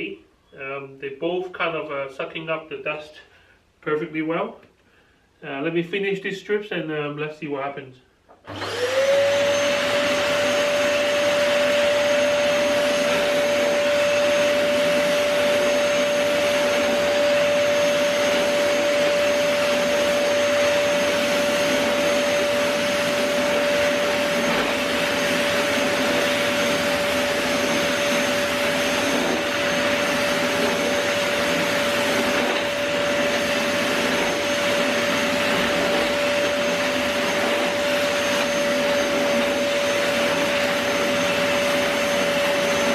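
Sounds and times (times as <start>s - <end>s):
vacuum cleaner running: 8.3s - 42.9s.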